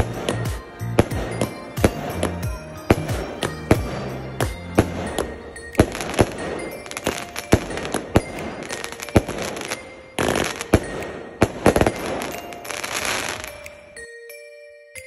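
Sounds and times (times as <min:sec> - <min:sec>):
fireworks bangs: 0:00.0 - 0:13.6
fireworks crackle: 0:00.0 - 0:13.8.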